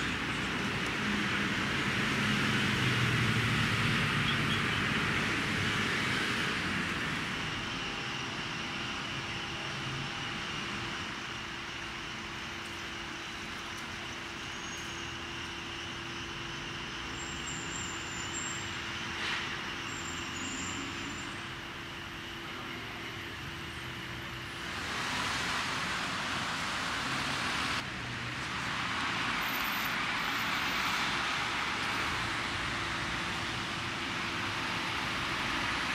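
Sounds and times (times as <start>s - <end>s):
traffic: 0.0s - 35.9s
industrial plant hum: 4.8s - 35.9s.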